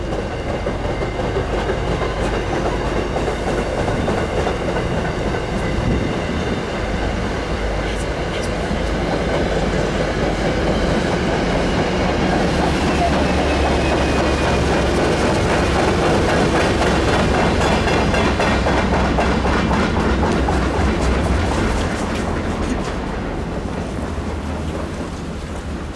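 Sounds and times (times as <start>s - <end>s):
train wheels clicking over rail joints: 0.0s - 25.9s.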